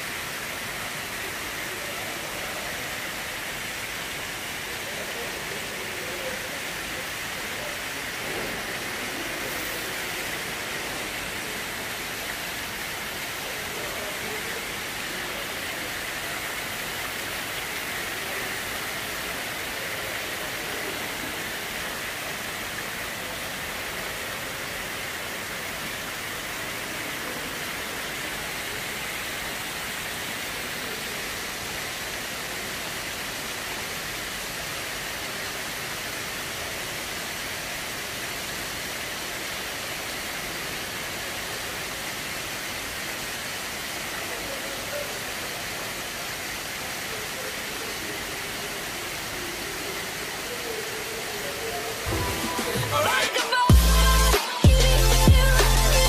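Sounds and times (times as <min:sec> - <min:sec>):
waterfall splashing into pool: 0:00.0 - 0:56.0.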